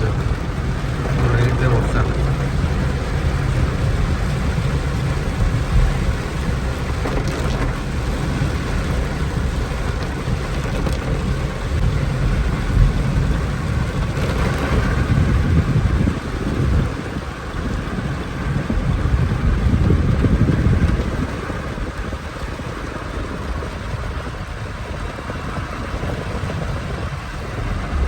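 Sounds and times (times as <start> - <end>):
heavy rain: 0.0 - 28.0
vehicle moving through water: 0.0 - 28.0.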